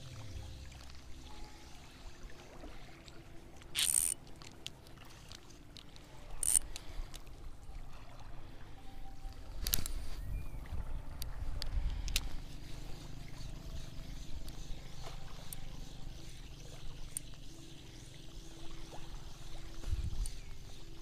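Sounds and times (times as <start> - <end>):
faint water sounds: 0.0 - 21.0.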